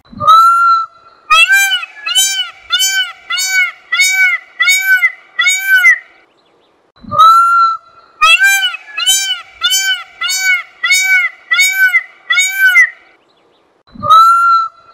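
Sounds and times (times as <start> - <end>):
peacock calling: 0.2 - 6.3, 7.2 - 13.2.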